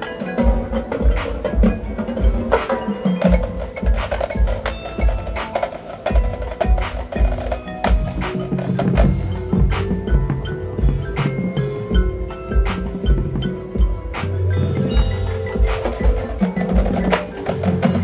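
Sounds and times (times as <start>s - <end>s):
marimba and bells ringing: 0.0s - 18.0s.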